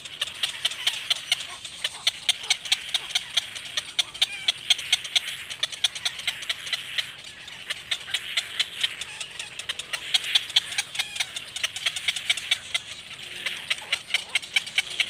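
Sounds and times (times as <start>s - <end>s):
nestlings clicking chatter: 0.0s - 15.0s.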